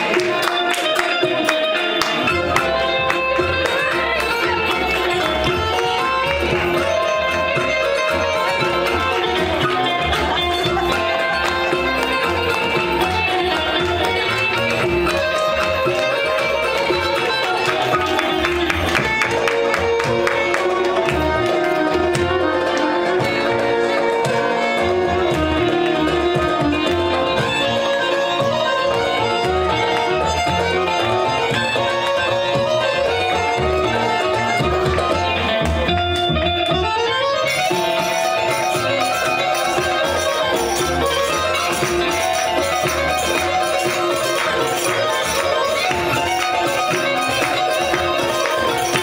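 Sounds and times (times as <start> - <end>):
hand drum beat: 0.0 - 49.0
live band playing dance music: 0.0 - 49.0
plucked string instrument melody: 0.0 - 49.0.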